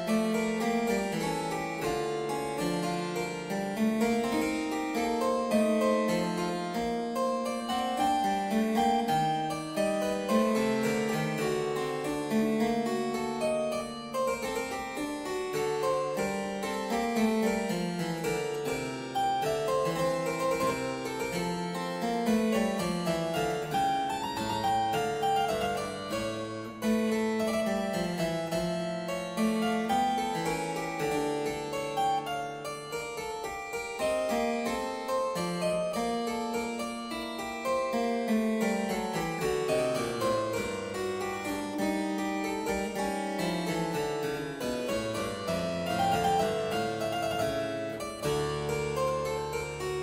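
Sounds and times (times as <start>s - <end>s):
keyboard instrumental music: 0.0s - 50.0s.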